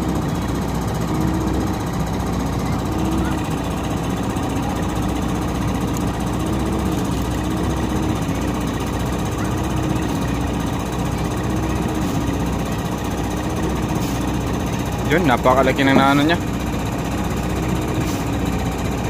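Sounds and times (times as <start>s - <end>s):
excavator diesel engine under load: 0.0s - 19.0s.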